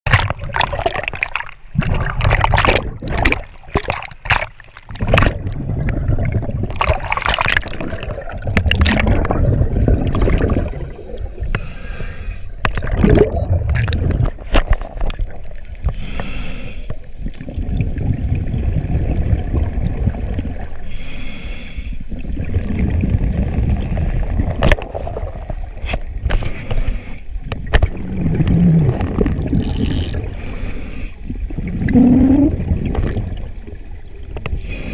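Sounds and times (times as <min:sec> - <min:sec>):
water gurgling and sloshing: 0:00.0 - 0:34.9.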